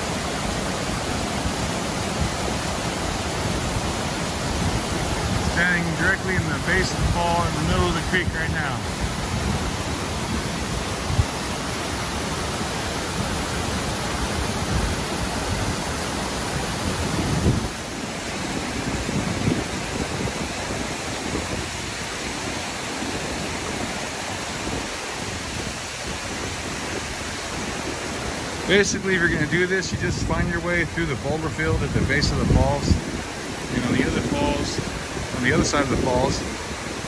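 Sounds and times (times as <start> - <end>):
creek cascading over boulders: 0.0 - 37.0
waterfall rushing: 0.0 - 37.0.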